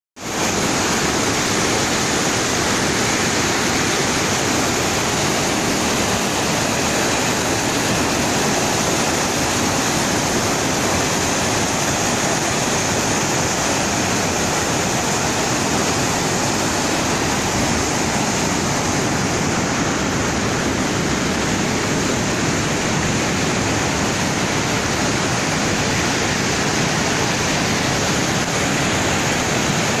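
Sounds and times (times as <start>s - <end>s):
floodwater rushing loudly: 0.2s - 30.0s.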